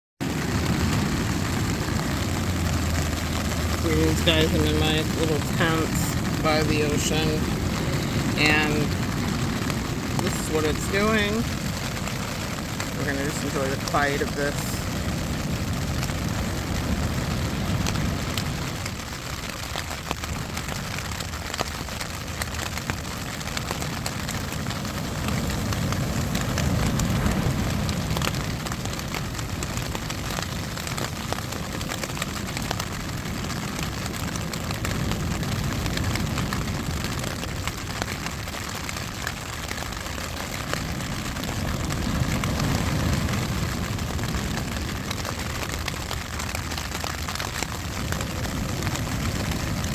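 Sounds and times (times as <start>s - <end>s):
ocean surf rumble: 0.2s - 49.9s
rain pattering on tent fabric: 0.2s - 49.9s.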